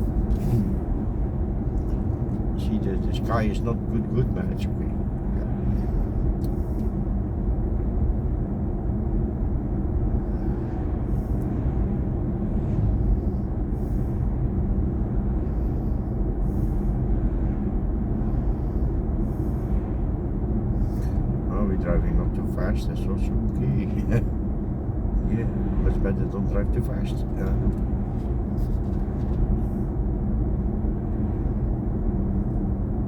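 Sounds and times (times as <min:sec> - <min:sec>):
road and tyre rumble: 0:00.0 - 0:33.0.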